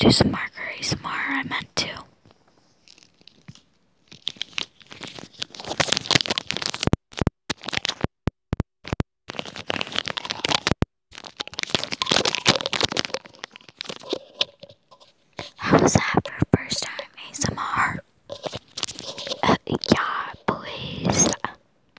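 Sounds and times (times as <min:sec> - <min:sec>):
plastic crinkling: 0:02.2 - 0:08.1, 0:09.3 - 0:21.6.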